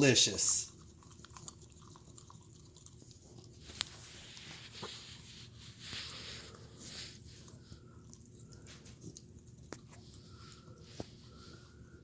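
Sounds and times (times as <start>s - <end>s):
dog chewing and crunching food: 0.0s - 12.0s.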